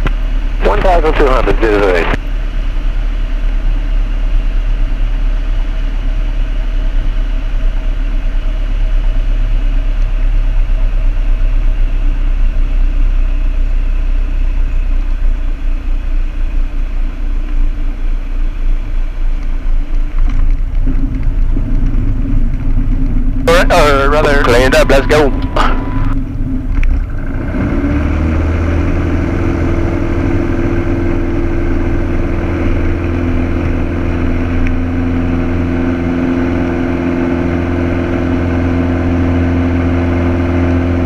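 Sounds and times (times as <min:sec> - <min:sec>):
propeller plane engine drone: 0:00.0 - 0:41.0.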